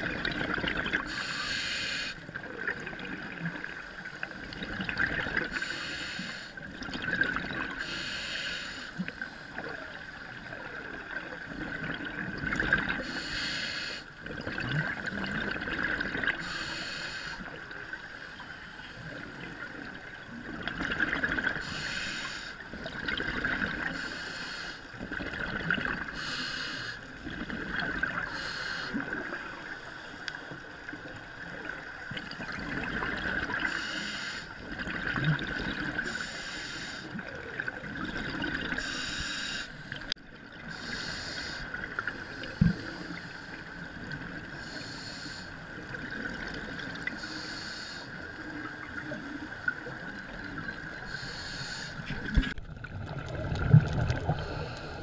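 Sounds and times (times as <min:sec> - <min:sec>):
exhaled bubbles hissing underwater: 0:00.0 - 0:18.4, 0:19.0 - 0:55.0.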